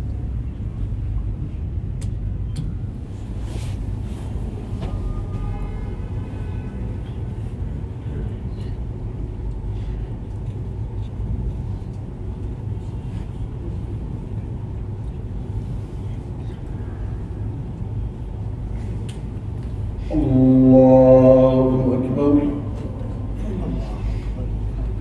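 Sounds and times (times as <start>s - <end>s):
low room rumble and hum: 0.0s - 25.0s.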